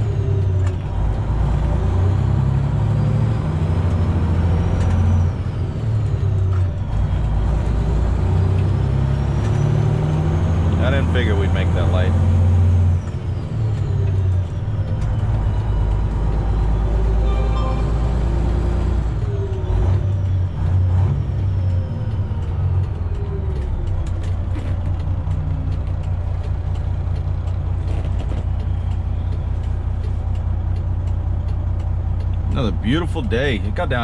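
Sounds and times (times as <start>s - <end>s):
truck diesel engine drone: 0.0s - 34.0s.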